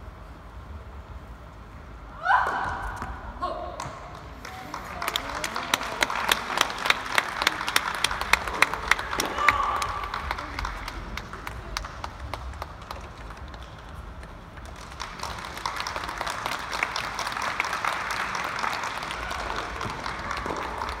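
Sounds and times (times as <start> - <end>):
spectators applauding: 3.8 - 21.0.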